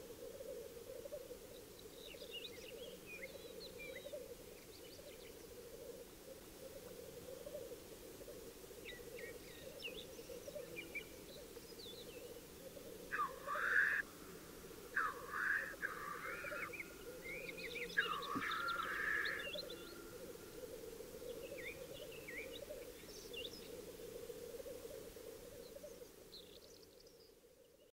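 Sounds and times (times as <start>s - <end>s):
distant grouse bubbling chorus: 0.0s - 27.7s
small birds chirping: 0.8s - 7.6s, 8.2s - 27.9s.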